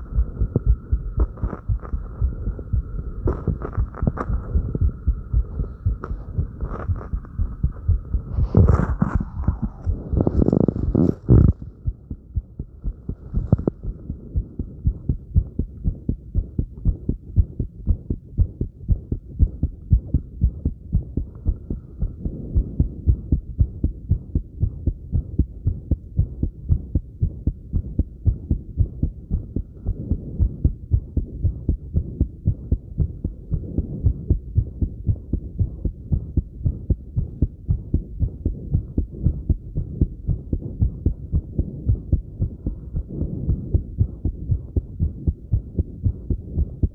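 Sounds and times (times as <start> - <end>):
heart beating: 0.0 - 46.9.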